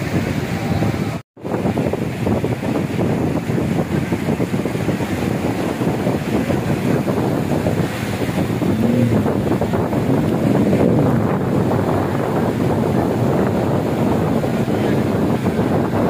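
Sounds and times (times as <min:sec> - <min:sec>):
small waves breaking on shore: 0:00.0 - 0:16.0
wind buffeting microphone: 0:00.0 - 0:16.0.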